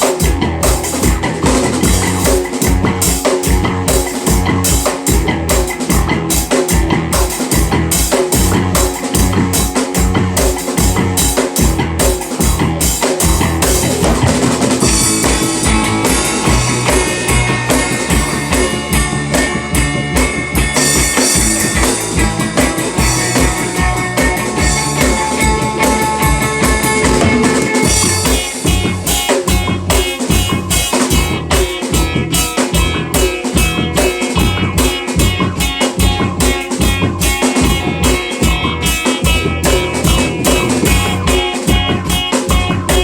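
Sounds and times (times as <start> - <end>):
rock band playing: 0.0 - 43.0.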